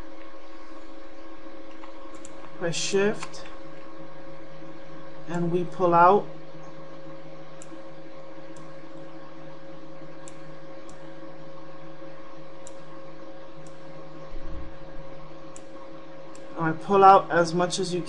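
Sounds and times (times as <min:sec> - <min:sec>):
electrical hum and hiss: 0:00.0 - 0:18.0.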